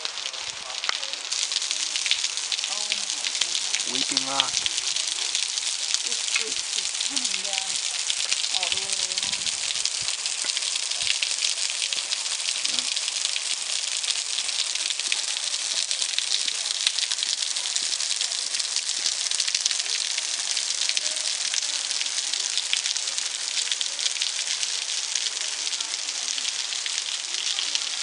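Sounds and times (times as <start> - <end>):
water drops pattering on rock: 0.0 - 24.6.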